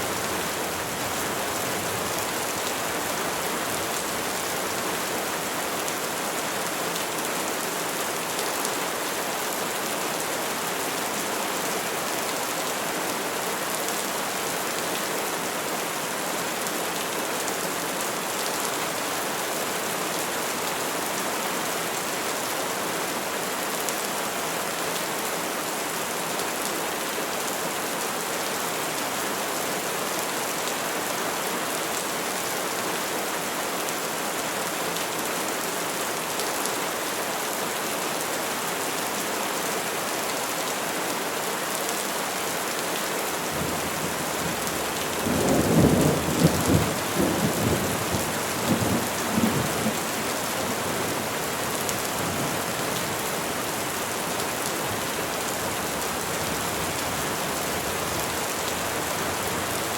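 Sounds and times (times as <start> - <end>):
steady rain falling on trees: 0.0 - 59.9.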